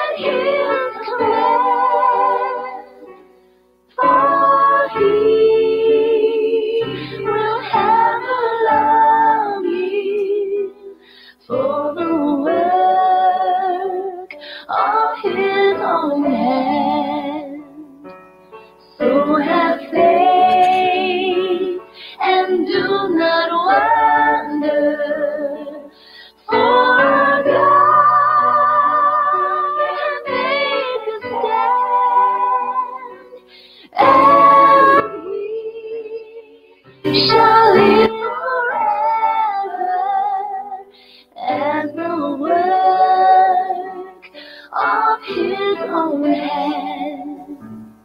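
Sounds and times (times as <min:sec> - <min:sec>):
woman singing with vibrato: 0:04.0 - 0:18.0, 0:19.0 - 0:47.6.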